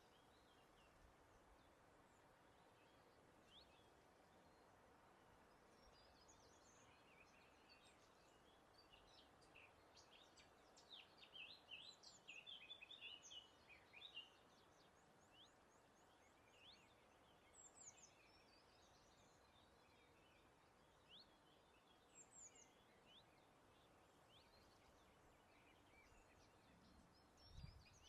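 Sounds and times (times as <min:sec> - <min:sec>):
small birds chirping: 0:00.0 - 0:28.0
soft background hiss: 0:00.0 - 0:28.0.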